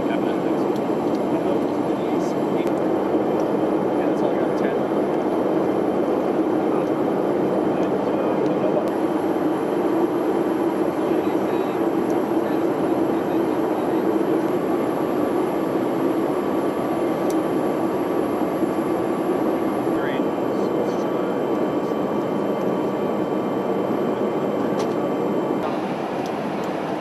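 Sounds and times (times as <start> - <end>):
jet cabin drone: 0.0 - 27.0.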